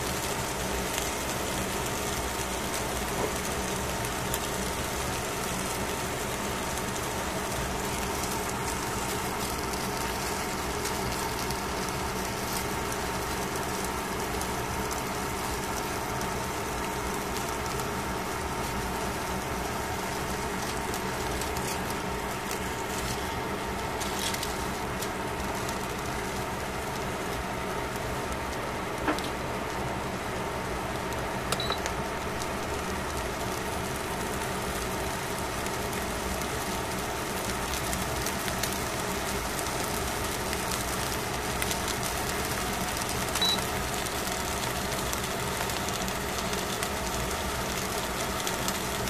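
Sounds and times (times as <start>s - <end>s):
fish sizzling on foil: 0.0s - 49.0s
machine hum: 0.0s - 49.0s.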